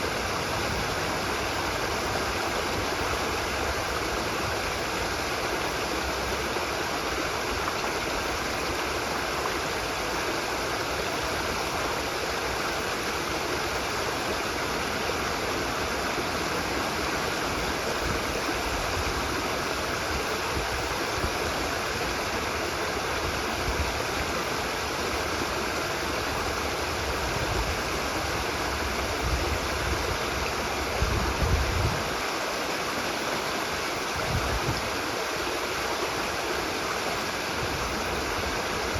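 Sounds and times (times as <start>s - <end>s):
stream running water: 0.0s - 38.9s.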